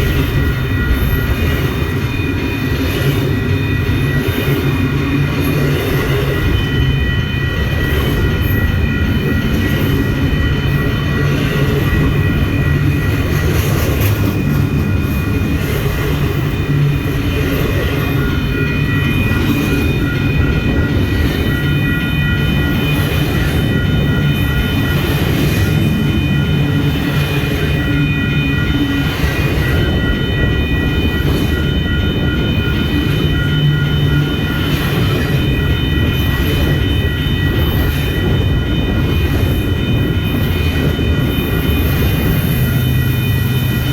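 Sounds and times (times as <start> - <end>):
thin steady whine: 0.0 - 43.9
train rumbling on track: 0.0 - 43.9.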